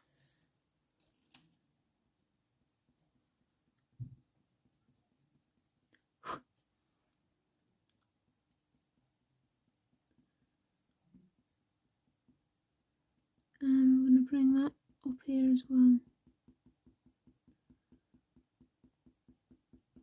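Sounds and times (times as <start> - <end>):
colour pencil strokes on paper: 0.0 - 20.0.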